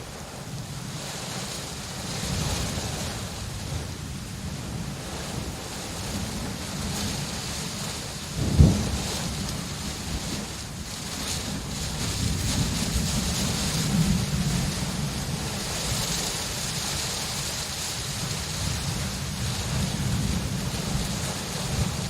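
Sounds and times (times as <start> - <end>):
rain hissing: 0.0 - 22.0
rolling thunder: 2.0 - 17.2, 18.1 - 22.0.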